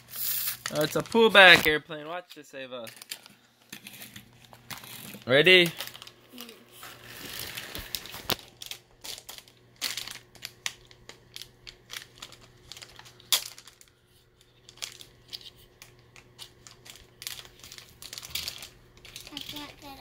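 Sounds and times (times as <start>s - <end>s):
plastic packaging crinkling: 0.2s - 1.7s, 2.9s - 20.0s.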